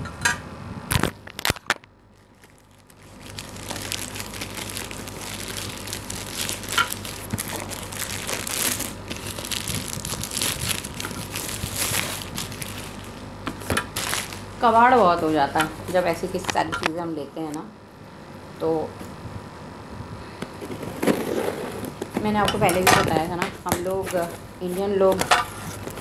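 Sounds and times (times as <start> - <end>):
plastic mailer bag crinkling: 0.9 - 17.1, 20.6 - 26.0.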